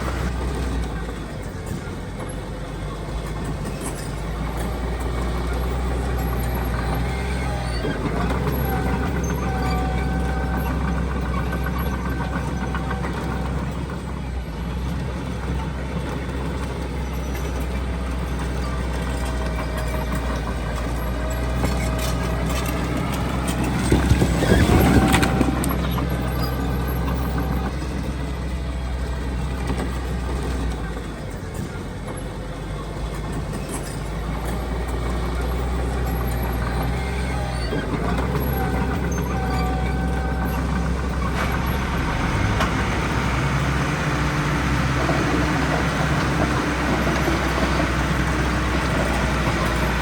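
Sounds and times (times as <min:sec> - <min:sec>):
heavy diesel engine droning: 0:00.0 - 0:50.0.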